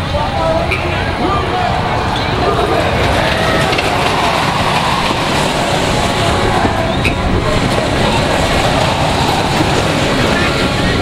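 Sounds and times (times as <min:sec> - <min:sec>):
crowd chatter: 0:00.0 - 0:11.0
ride car rumbling on track: 0:00.0 - 0:11.0.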